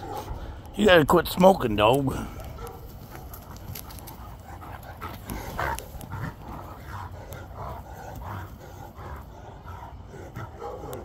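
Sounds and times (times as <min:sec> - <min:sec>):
dogs grunting and huffing: 0:00.0 - 0:00.7, 0:02.0 - 0:11.0.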